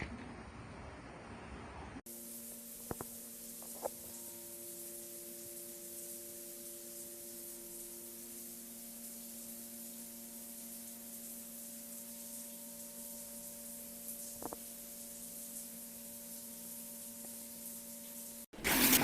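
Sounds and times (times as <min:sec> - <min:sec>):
background hiss: 0:02.1 - 0:17.9.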